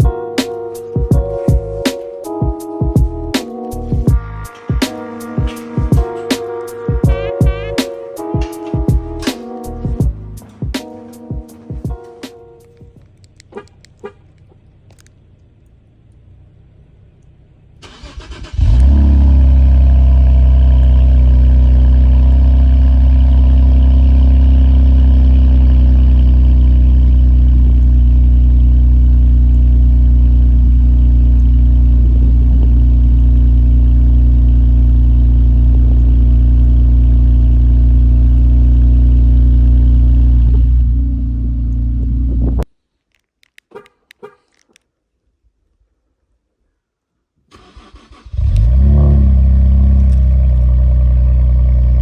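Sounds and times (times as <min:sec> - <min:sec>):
car engine starting and idling: 0:00.0 - 0:42.7, 0:47.5 - 0:52.0.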